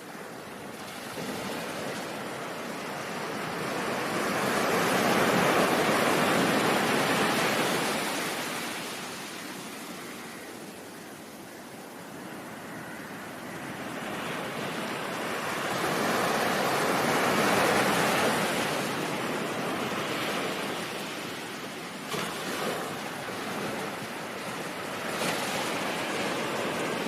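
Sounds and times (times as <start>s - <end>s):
ocean waves breaking on shore: 0.0s - 27.0s.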